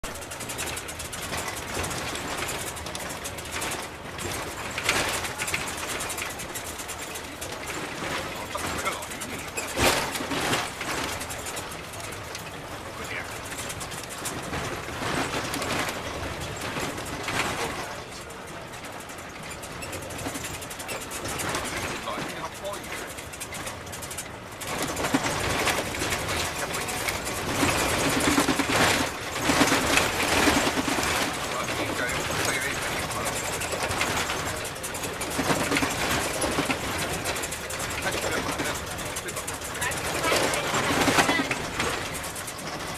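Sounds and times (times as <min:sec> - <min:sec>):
rattling clicks and knocks: 0:00.0 - 0:42.9
vehicle road noise: 0:00.0 - 0:42.9.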